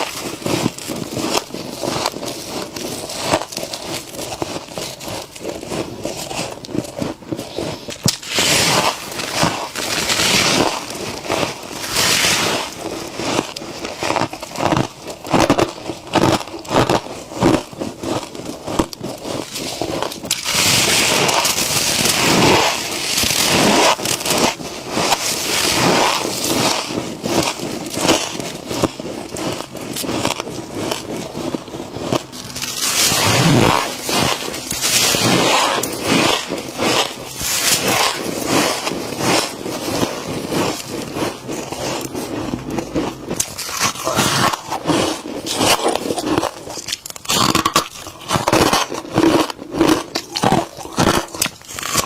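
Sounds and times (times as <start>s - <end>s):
frost crunching while eaten: 0.0s - 52.0s.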